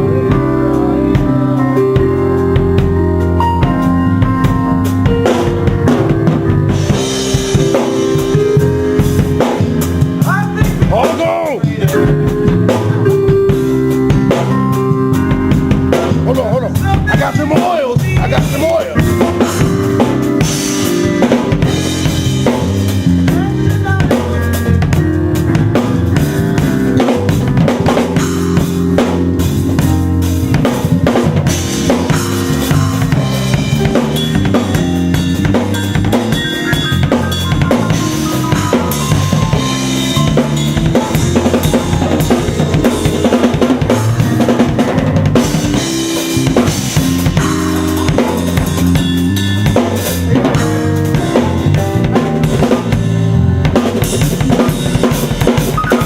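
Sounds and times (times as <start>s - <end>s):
bass line: 0.0s - 56.0s
drum kit playing: 0.0s - 56.0s.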